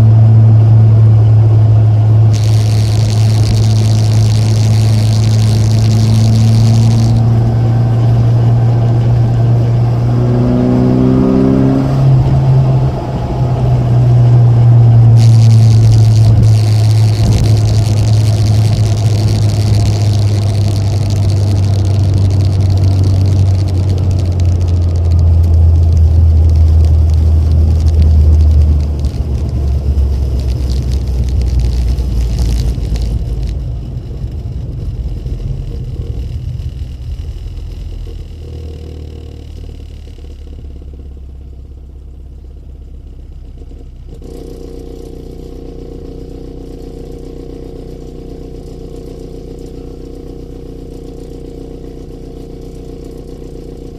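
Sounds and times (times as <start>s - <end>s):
car engine running and idling: 0.0s - 53.9s.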